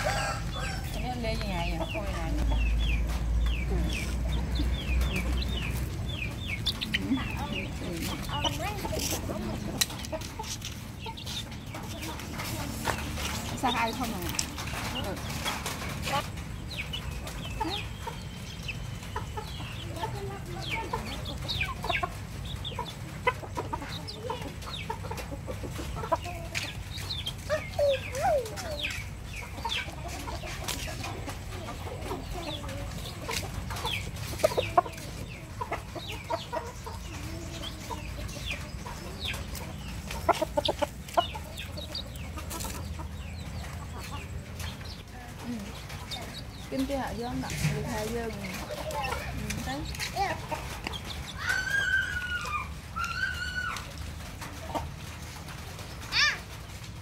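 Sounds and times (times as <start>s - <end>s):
chick peeping: 0.0s - 57.0s
hen clucking: 0.0s - 57.0s.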